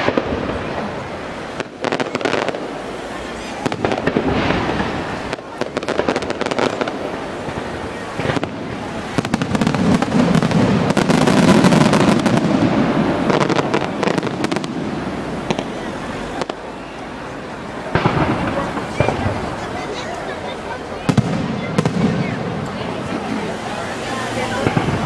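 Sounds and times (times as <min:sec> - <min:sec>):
fireworks crackling bangs: 0:00.0 - 0:25.0
fireworks sharp bursts: 0:00.0 - 0:25.0.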